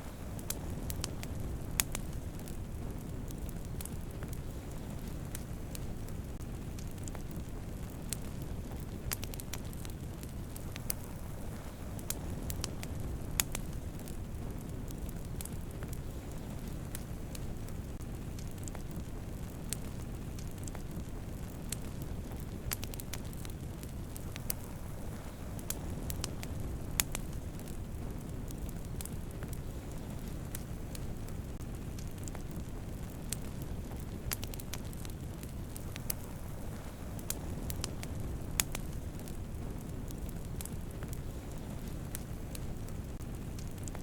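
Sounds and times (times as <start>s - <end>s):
campfire flames rushing: 0.0s - 44.0s
fire crackling and popping: 0.0s - 44.0s.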